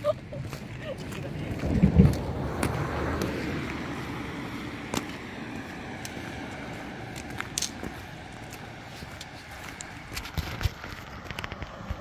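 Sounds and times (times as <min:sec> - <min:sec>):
footsteps on gravel: 0:00.0 - 0:12.0
vehicle passing: 0:00.0 - 0:12.0.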